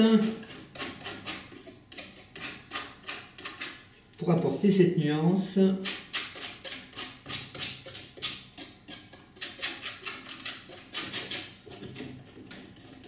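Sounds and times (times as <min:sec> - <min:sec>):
palette knife scraping canvas: 0:00.0 - 0:03.8, 0:05.8 - 0:13.0.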